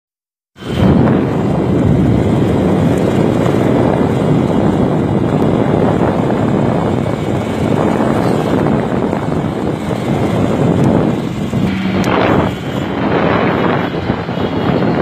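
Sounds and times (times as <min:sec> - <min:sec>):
motorcycle riding: 0:00.6 - 0:15.0
road noise: 0:00.6 - 0:15.0
wind buffeting microphone: 0:00.6 - 0:15.0.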